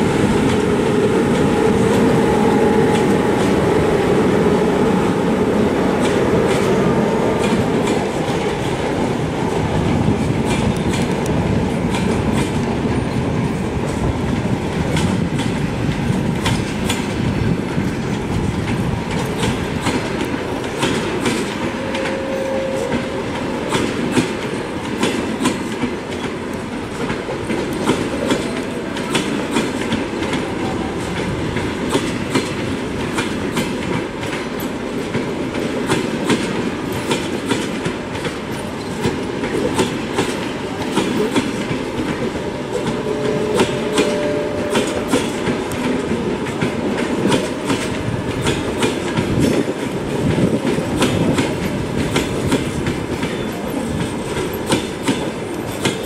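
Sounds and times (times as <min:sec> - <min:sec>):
train rumble: 0:00.0 - 0:56.0
train wheels clicking on rail joints: 0:00.0 - 0:56.0.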